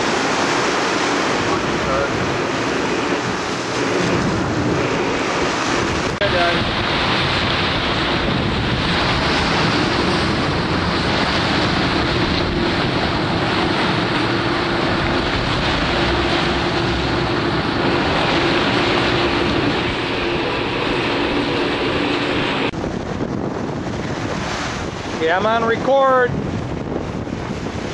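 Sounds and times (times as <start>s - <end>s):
boat engine hum: 0.0s - 27.9s
water noise: 0.0s - 27.9s
wind rushing over microphone: 0.0s - 27.9s.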